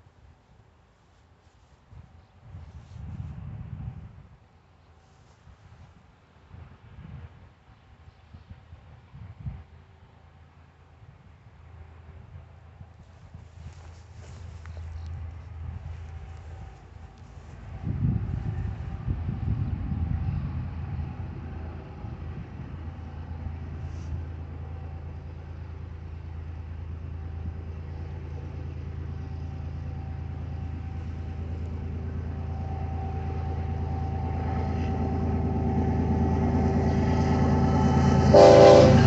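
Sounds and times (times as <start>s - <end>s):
diesel locomotive engine drone: 0.0s - 39.0s.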